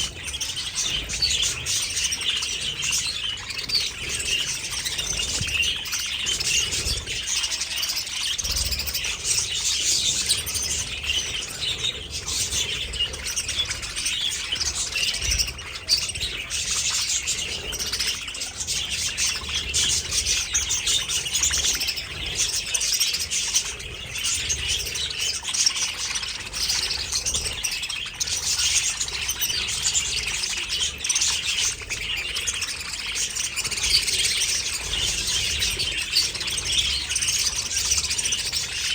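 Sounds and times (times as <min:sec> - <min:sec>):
flock of budgerigars chattering: 0:00.0 - 0:38.9.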